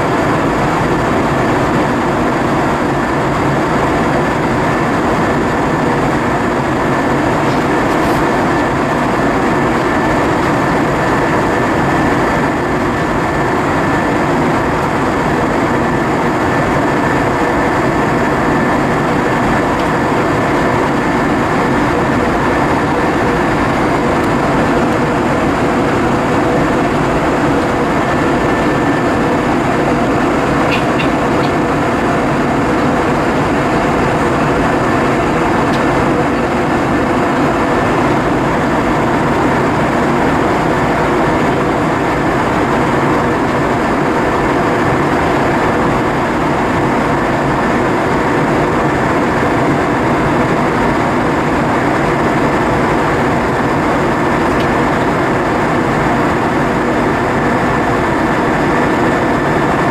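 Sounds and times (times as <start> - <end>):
airliner cabin air and engine noise: 0.0 - 59.9
thin high whine: 0.0 - 59.9.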